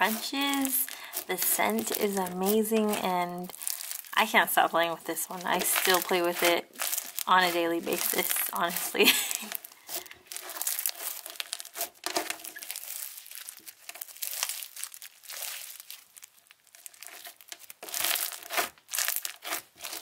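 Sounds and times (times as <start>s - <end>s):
slime crunching and crackling: 0.0s - 20.0s.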